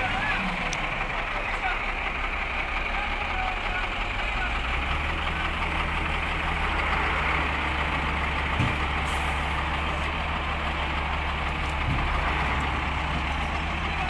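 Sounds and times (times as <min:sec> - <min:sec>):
diesel engine of heavy machinery: 0:00.0 - 0:14.0.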